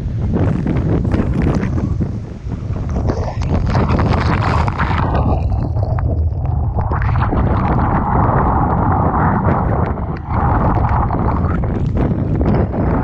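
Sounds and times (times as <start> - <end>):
rough sea rushing: 0.0 - 13.0
wind buffeting the microphone: 0.0 - 13.0.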